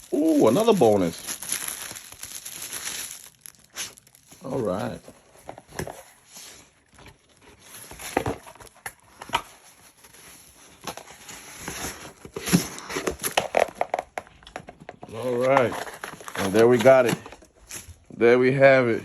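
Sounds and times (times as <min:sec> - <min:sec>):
dog tearing cardboard package: 0:00.0 - 0:14.0, 0:15.0 - 0:18.0.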